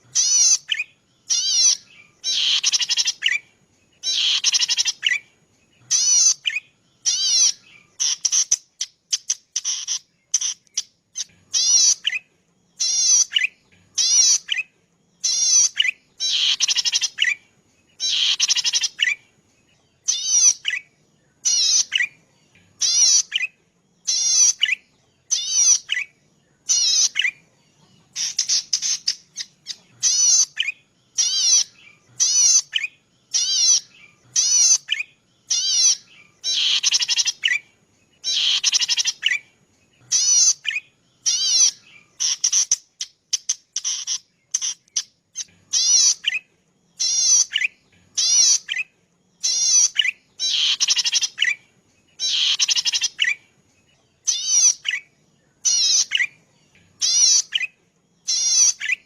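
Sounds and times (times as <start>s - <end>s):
warbler singing buzzy phrases: 0.0s - 59.0s.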